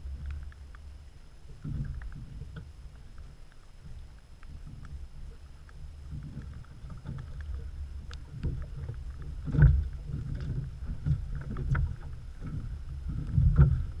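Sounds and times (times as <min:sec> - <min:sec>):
raindrops ticking on camera: 0:00.0 - 0:14.0
water lapping against boat: 0:00.0 - 0:14.0
wind: 0:00.0 - 0:14.0.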